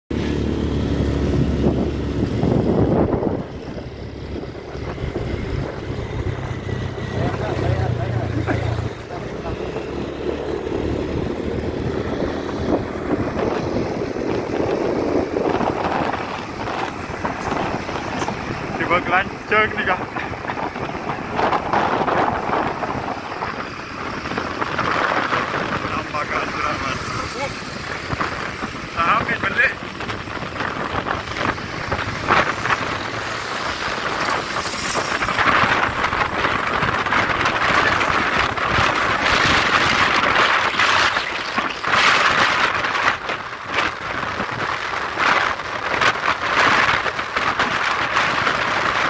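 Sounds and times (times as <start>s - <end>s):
motorcycle engine running: 0.1s - 49.0s
wind noise on microphone: 0.1s - 49.0s.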